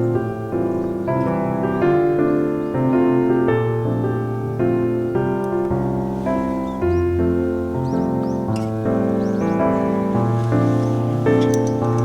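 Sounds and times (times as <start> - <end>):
held keyboard chords: 0.0 - 12.0.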